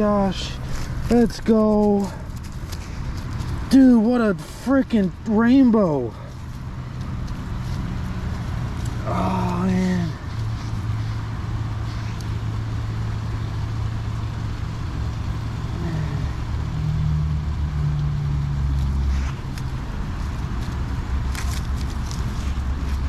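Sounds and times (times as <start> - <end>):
heavy vehicle passing: 0.0 - 23.0
road traffic hum: 0.0 - 23.0.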